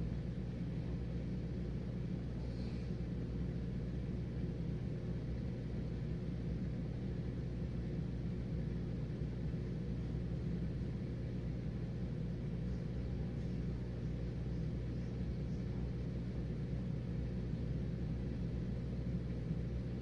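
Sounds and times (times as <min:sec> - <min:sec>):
dishwasher pump motor hum: 0:00.0 - 0:20.0.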